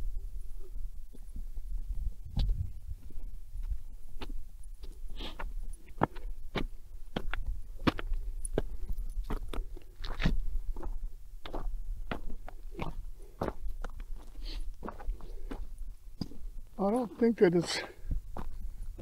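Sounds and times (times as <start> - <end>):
footsteps on gravel: 1.8 - 19.0.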